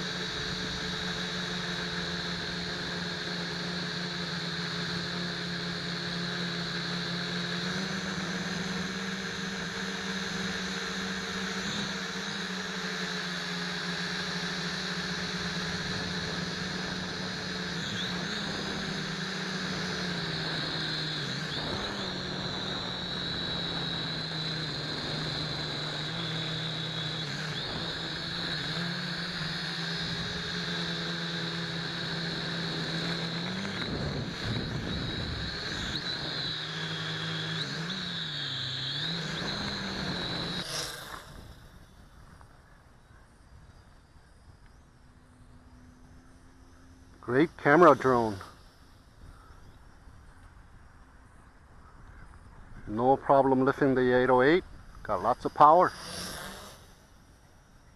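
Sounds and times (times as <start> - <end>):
drone propellers whining: 0.0 - 57.9.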